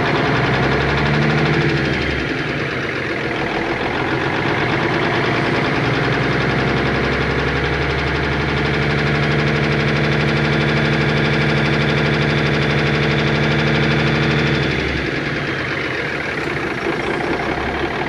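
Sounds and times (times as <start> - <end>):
diesel engine running with a miss: 0.0 - 18.0.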